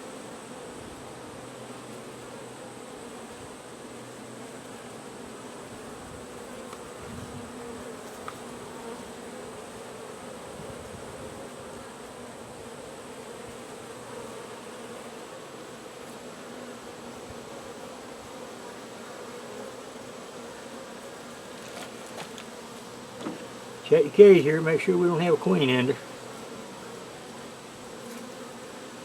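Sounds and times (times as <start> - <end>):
honey bees buzzing: 0.0 - 29.0.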